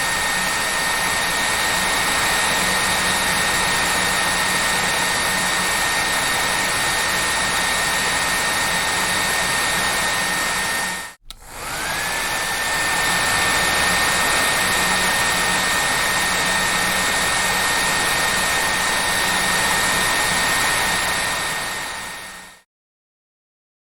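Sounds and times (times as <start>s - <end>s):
hair dryer running: 0.0s - 22.7s.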